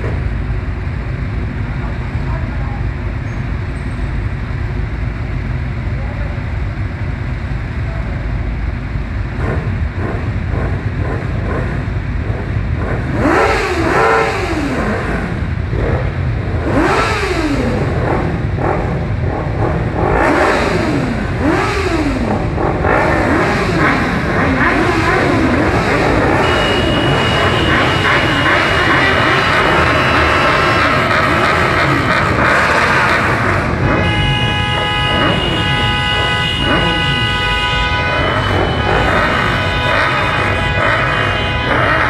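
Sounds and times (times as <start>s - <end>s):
motorcycle engines idling: 0.0s - 42.0s
motorcycle engines revving: 0.0s - 42.0s.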